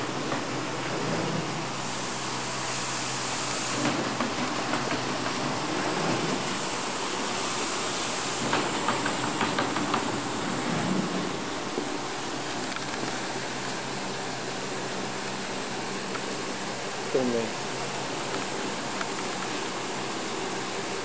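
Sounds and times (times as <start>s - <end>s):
boxmaking machine humming: 0.0s - 21.0s
high hiss: 0.0s - 21.0s.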